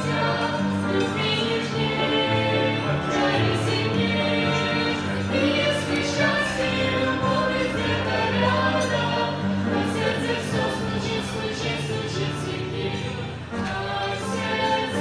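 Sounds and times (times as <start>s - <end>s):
choir singing: 0.0s - 15.0s
instrumental accompaniment: 0.0s - 15.0s.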